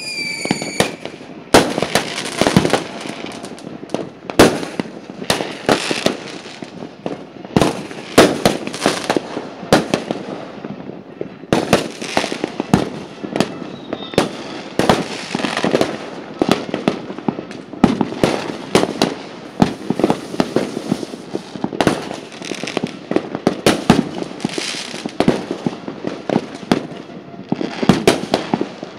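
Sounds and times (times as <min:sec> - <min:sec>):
fireworks exploding: 0:00.0 - 0:28.9.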